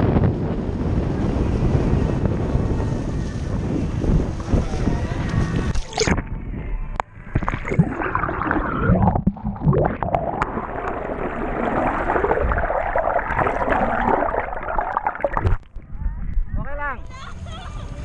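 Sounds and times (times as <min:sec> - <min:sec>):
muffled underwater rush: 0:00.0 - 0:16.4.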